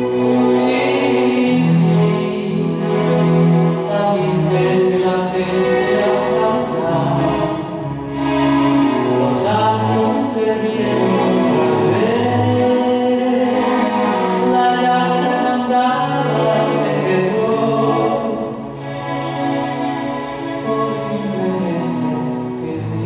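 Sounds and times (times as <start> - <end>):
choir singing held notes: 0.0 - 22.6.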